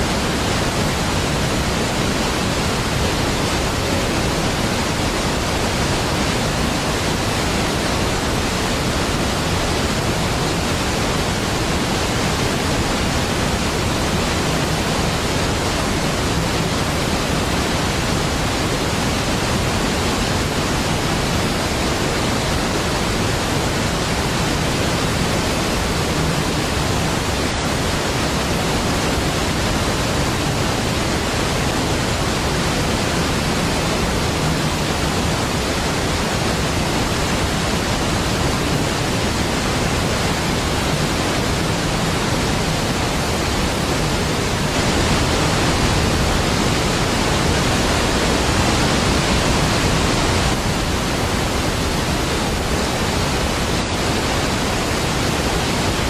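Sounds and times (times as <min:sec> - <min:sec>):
large waterfall rushing: 0:00.0 - 0:56.0.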